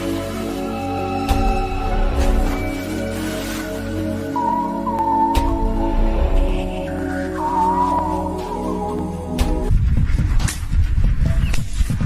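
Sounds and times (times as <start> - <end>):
music with sustained notes: 0.0 - 9.9.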